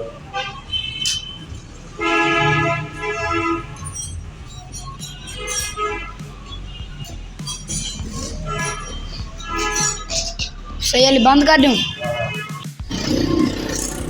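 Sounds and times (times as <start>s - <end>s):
vehicle horn: 0.1s - 12.6s.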